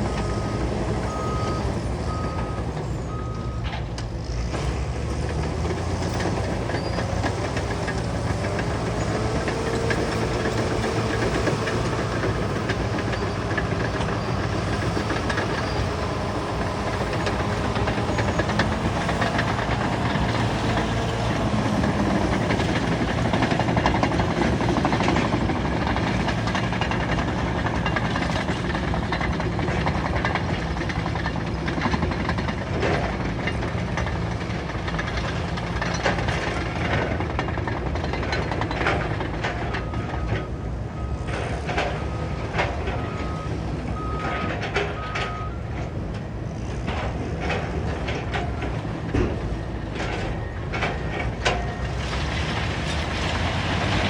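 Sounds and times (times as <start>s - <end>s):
bulldozer diesel engine under load: 0.0s - 54.0s
steel tracks clanking rattle: 0.0s - 54.0s.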